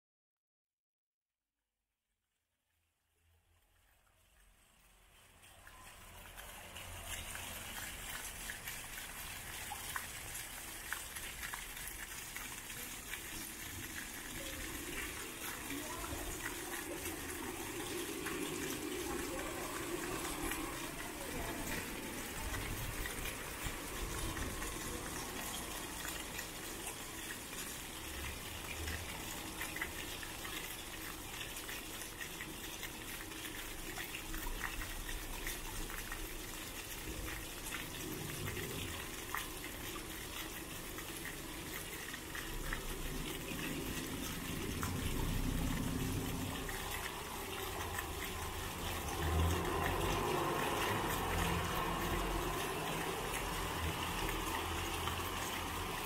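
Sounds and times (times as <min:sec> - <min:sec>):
fountain water splashing: 0:03.5 - 0:56.0.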